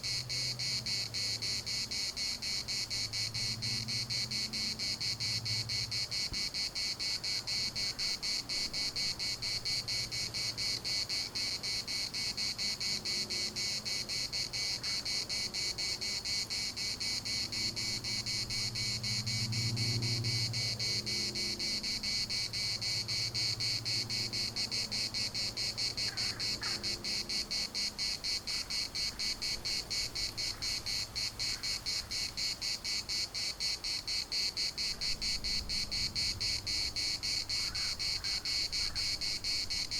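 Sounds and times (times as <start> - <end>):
cicadas buzzing in chorus: 0.0 - 39.9.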